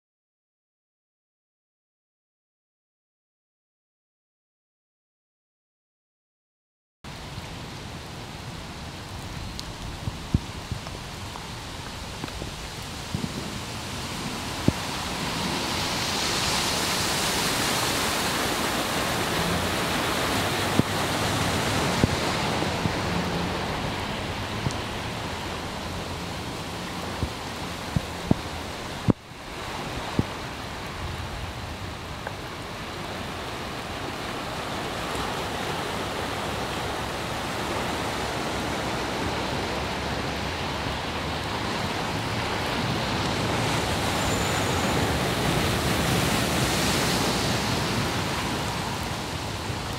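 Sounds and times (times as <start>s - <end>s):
heavy rain: 7.1s - 49.9s
running floodwater: 7.1s - 49.9s.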